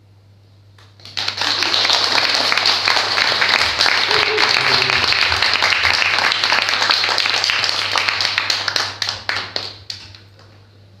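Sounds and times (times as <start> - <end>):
audience applause: 0.9 - 10.0.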